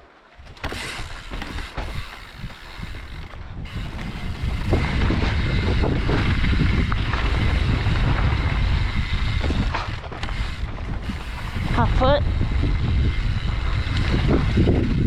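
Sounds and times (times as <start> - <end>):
bike rattling on rocky trail: 0.0 - 15.0
wind buffeting microphone: 0.4 - 15.0.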